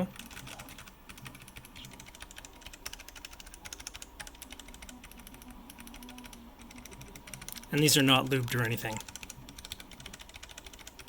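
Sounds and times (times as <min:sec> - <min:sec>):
faint printer hum: 0:00.0 - 0:11.0
fast clicky keyboard typing: 0:00.0 - 0:11.0.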